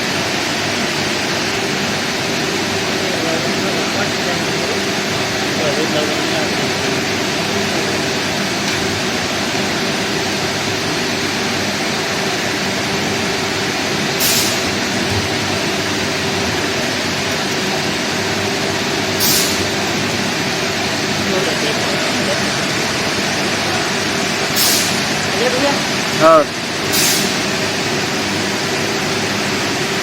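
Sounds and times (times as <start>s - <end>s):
industrial machinery drone: 0.0s - 30.0s.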